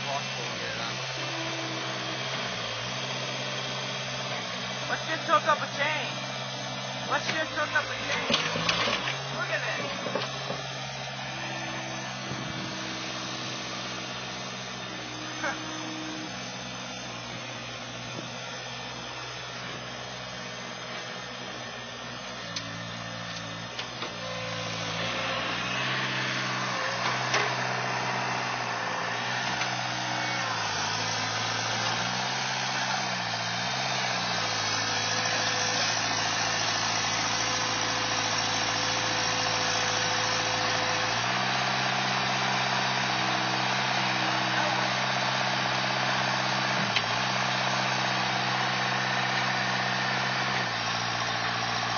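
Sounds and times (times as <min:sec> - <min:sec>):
loader engine running under load: 0:00.0 - 0:51.9.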